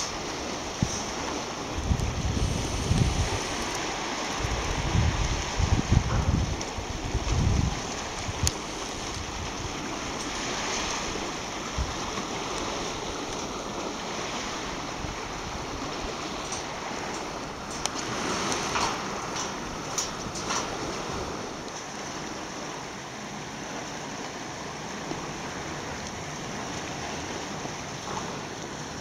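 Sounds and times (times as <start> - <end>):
lake water: 0.0 - 29.0
wind: 0.0 - 29.0.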